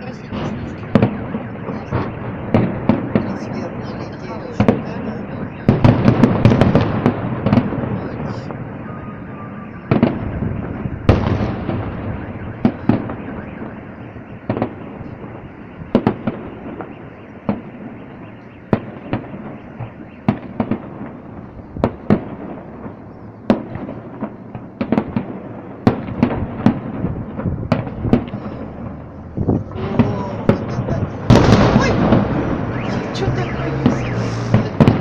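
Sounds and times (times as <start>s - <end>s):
continuous rumble: 0.0s - 35.0s.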